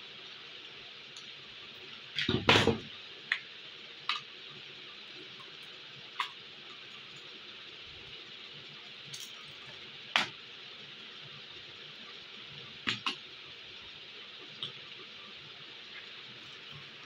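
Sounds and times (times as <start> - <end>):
recording hiss: 0.0 - 17.0.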